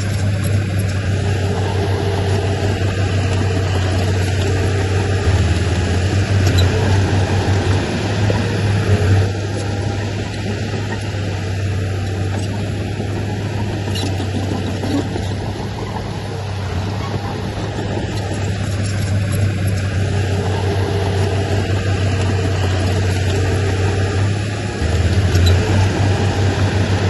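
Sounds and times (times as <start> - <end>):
diesel engine deep hum: 0.0 - 27.0.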